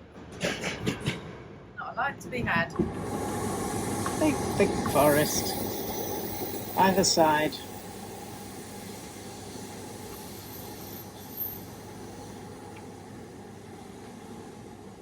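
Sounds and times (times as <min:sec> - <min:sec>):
train carriage running noise: 0:00.0 - 0:15.0.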